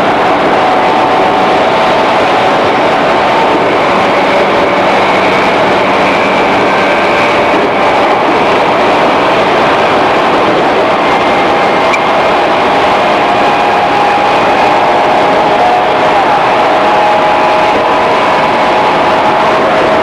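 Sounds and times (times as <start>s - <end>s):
faint steady whine: 0.0s - 20.0s
train motors and gears running: 0.0s - 20.0s
train wheels rolling on rails: 0.0s - 20.0s.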